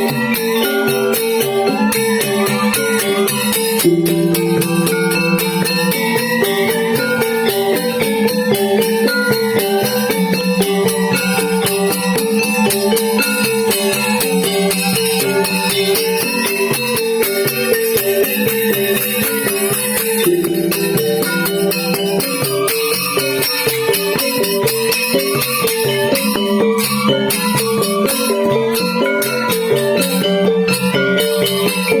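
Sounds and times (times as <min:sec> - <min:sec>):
bright percussive strikes: 0:00.0 - 0:32.0
gamelan ensemble playing: 0:00.0 - 0:32.0.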